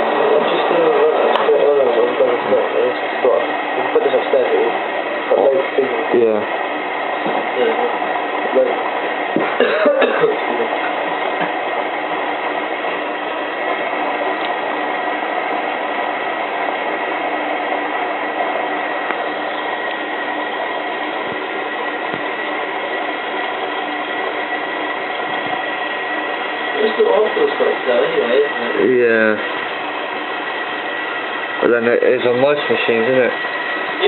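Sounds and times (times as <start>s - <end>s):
washing machine filling with water: 0.0s - 34.0s.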